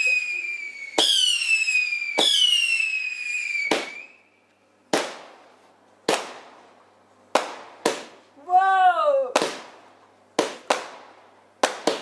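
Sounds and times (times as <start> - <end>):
fireworks bangs: 0.0 - 4.3, 4.9 - 12.0.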